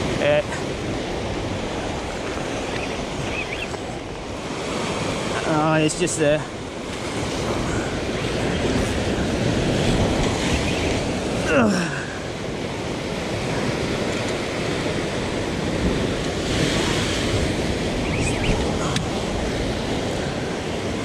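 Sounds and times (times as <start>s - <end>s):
wind buffeting microphone: 0.0s - 11.5s, 12.1s - 21.0s
waves breaking on breakwall: 0.0s - 21.0s.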